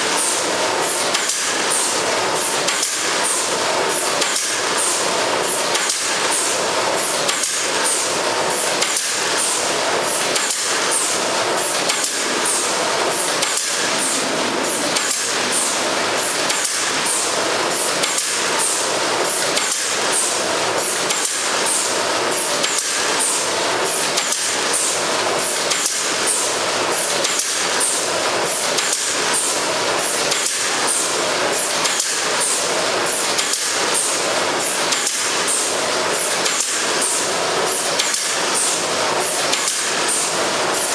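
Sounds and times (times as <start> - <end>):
sharp rhythmic machine clicks: 0.1 - 40.9.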